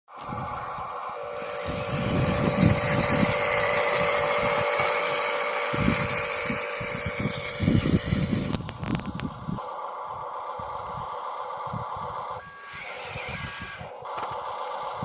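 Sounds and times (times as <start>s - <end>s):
irregular low rumble: 0.1s - 12.4s
electric motors whirring with whine: 0.1s - 15.0s.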